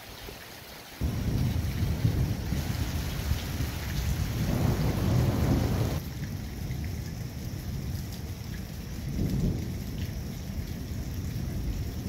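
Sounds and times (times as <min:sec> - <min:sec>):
steady rain falling: 0:00.0 - 0:12.0
thunder rumbling: 0:01.0 - 0:12.0.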